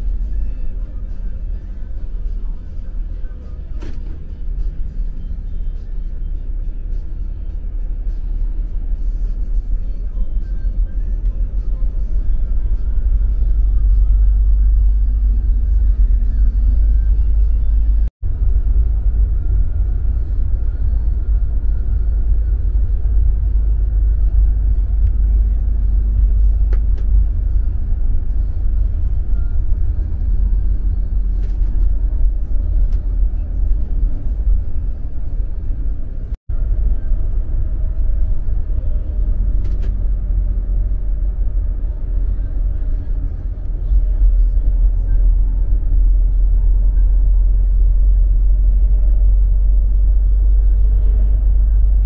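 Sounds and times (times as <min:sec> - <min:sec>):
bus rumbling from inside: 0:00.0 - 0:52.0.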